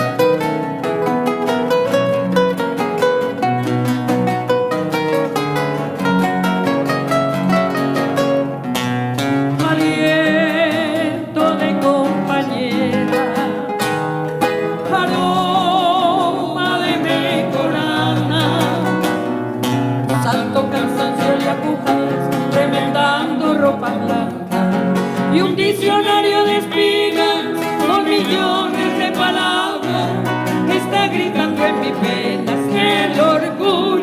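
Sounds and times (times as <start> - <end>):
plucked guitars playing: 0.0 - 34.0.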